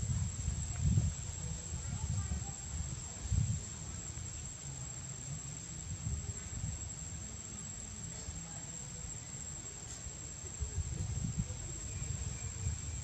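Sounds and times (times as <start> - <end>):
high-pitched insect drone: 0.0 - 13.0
low unsteady rumble: 0.0 - 13.0.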